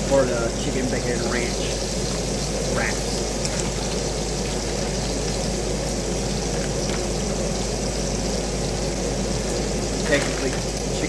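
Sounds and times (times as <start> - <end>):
bacon sizzling in a frying pan: 0.0 - 11.0.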